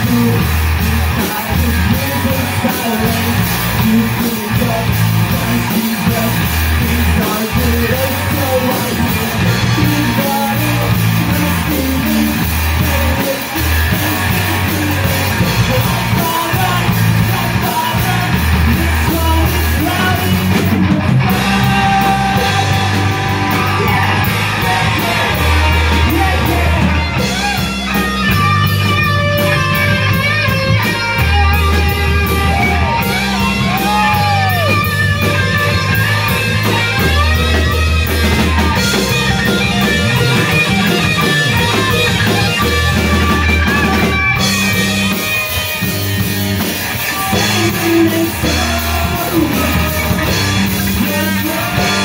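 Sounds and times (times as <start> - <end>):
bass guitar: 0.0 - 52.0
drum kit: 0.0 - 52.0
electric guitar: 0.0 - 52.0
lead vocals: 0.0 - 52.0.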